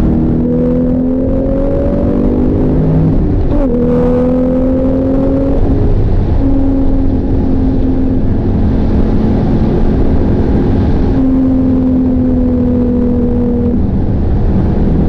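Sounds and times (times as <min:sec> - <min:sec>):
car engine droning: 0:00.0 - 0:15.0
rushing noise: 0:00.0 - 0:15.0.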